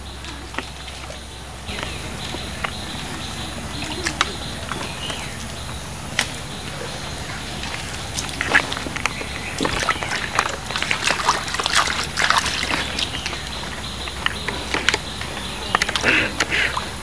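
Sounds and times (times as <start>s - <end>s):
water sloshing and trickling: 0.0s - 17.0s
wet clicks: 0.0s - 17.0s
wet mud squelching: 0.0s - 17.0s.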